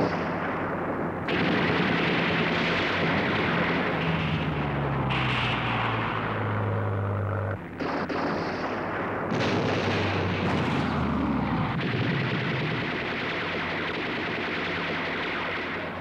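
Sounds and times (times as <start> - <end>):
explosions: 0.0 - 16.0
gunfire: 0.0 - 16.0
low engine drone: 0.0 - 16.0.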